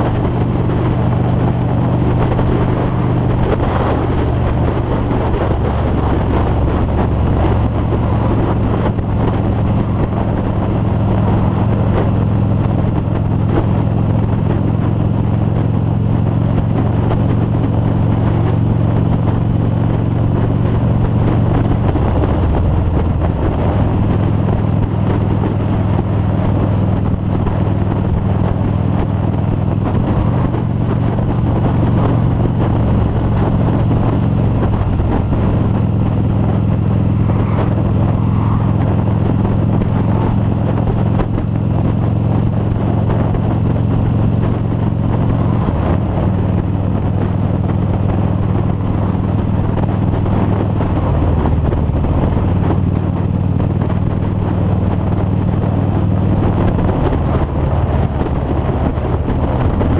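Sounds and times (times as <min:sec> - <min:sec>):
motorcycle engine cruising: 0:00.0 - 0:59.9
wind noise on microphone: 0:00.0 - 0:59.9.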